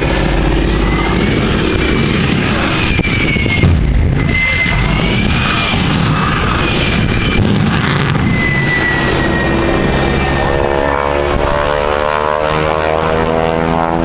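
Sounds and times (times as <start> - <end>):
propeller aircraft engines droning: 0.0 - 14.0.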